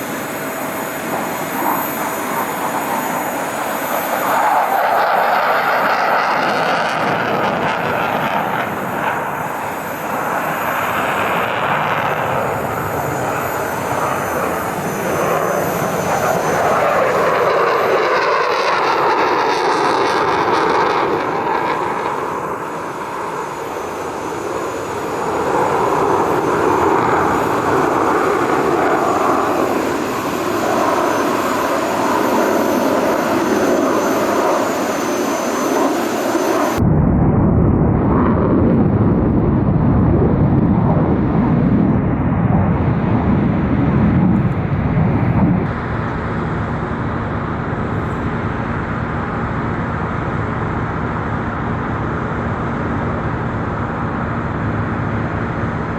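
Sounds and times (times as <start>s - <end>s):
jet engine roaring in flyby: 0.0s - 55.9s.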